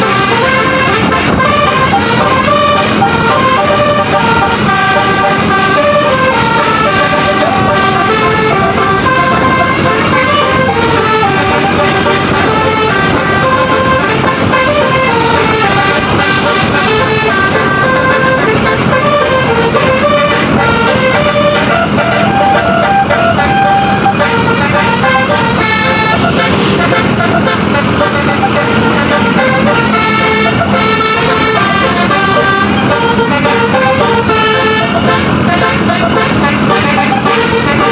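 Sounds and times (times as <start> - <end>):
multi-tone musical bus horn: 0.0 - 37.9.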